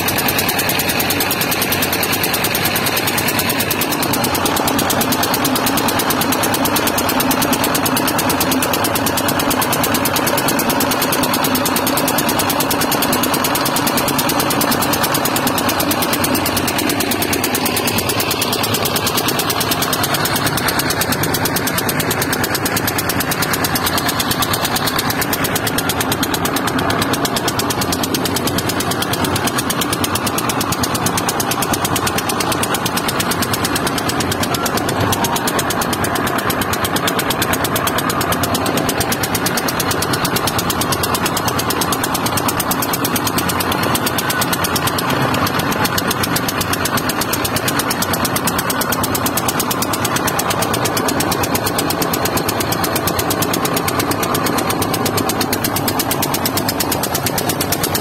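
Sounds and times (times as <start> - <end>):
boat engine chugging: 0.0 - 58.0.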